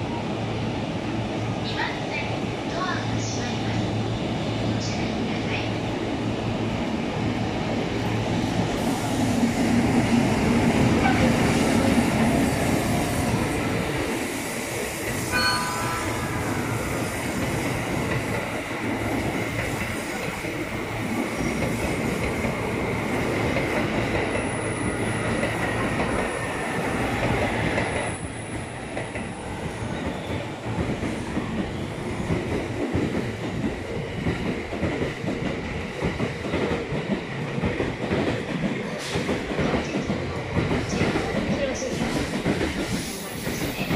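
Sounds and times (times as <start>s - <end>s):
train wheels rumbling and clattering: 1.1s - 43.9s.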